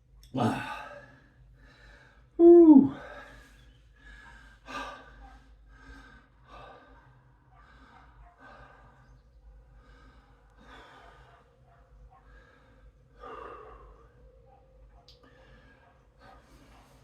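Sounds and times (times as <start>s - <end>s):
man breathing hard: 0.4s - 14.2s.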